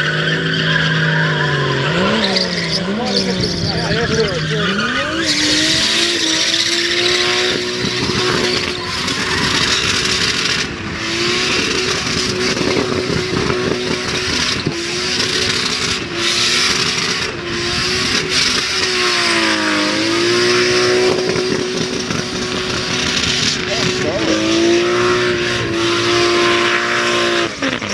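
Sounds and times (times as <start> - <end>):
car engine at high revs: 0.0 - 27.9
spinning tyres squealing: 0.0 - 27.9.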